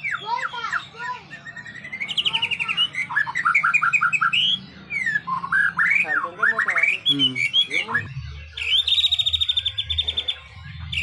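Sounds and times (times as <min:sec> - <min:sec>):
songbird singing whistled notes: 0:00.0 - 0:11.0.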